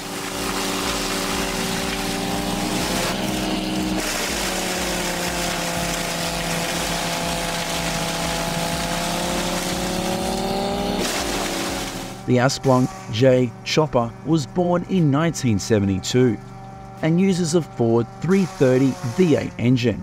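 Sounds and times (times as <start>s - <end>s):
wood chipper running: 0.0s - 20.0s.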